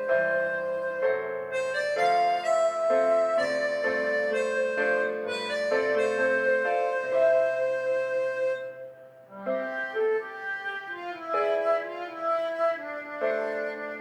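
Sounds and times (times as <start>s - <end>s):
backing track: 0.0s - 14.0s
harmonica playing pop melody: 0.0s - 14.0s.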